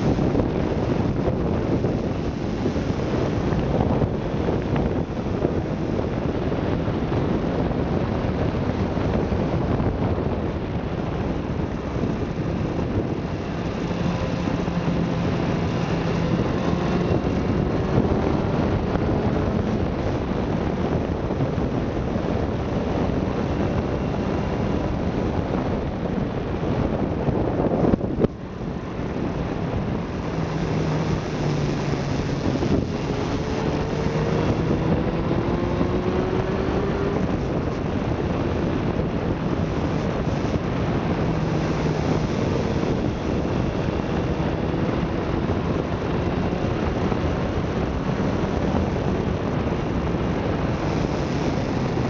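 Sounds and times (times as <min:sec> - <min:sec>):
engine and road noise: 0:00.0 - 0:52.0
wind buffeting microphone: 0:00.0 - 0:52.0.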